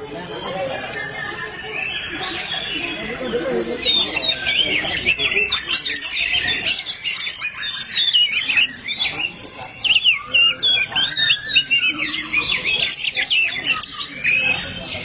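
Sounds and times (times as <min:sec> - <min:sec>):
birds whistling and chirping: 0:00.0 - 0:15.0.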